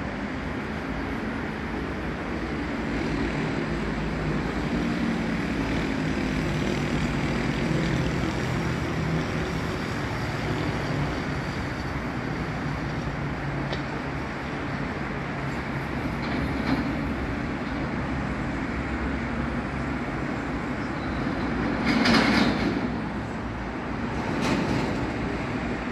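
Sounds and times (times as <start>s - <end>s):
city traffic noise: 0.0s - 25.9s.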